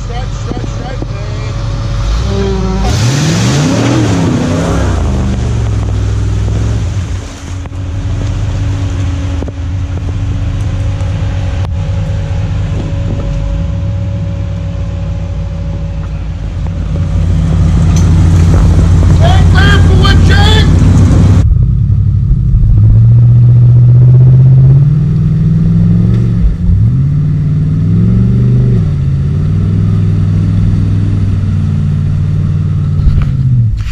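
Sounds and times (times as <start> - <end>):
high whine: 0.0 - 33.9
truck engine revving: 0.0 - 33.9.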